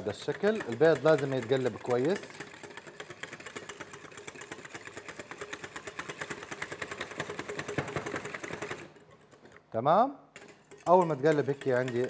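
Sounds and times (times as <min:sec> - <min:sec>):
whisk clicking against bowl: 0:00.0 - 0:09.2, 0:10.4 - 0:12.0.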